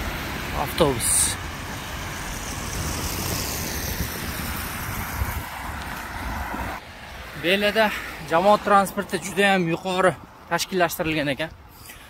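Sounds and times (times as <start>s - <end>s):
car engines: 0.0s - 12.0s.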